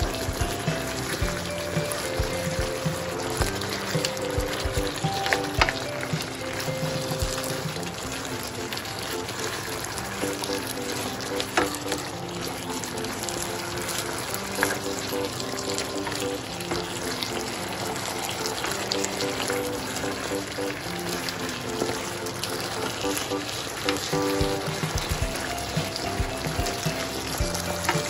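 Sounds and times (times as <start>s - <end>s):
food sizzling in a frying pan: 0.0s - 28.0s
slow background music: 0.0s - 28.0s.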